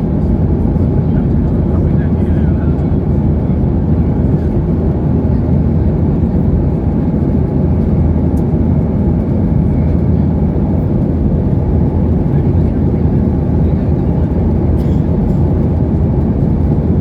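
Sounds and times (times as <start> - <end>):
airliner engines and airflow roar: 0.0 - 17.0.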